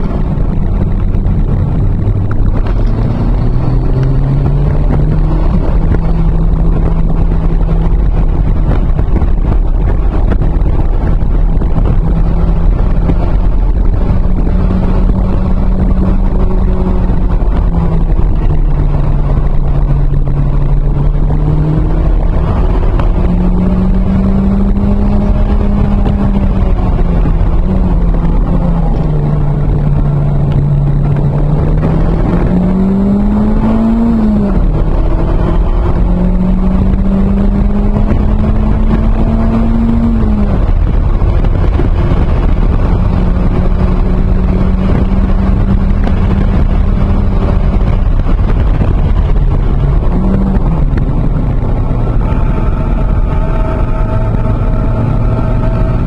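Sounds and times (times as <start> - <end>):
car engine accelerating and shifting: 0.0 - 56.0
road and wind rumble: 0.0 - 56.0.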